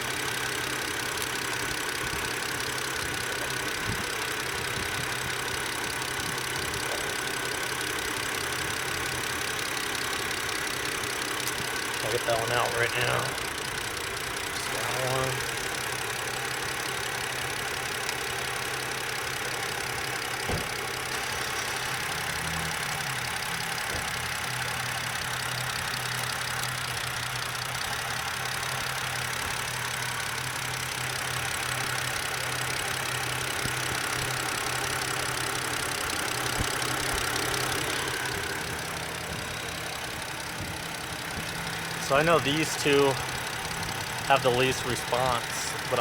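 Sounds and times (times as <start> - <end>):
car engine idling rough: 0.0 - 46.0.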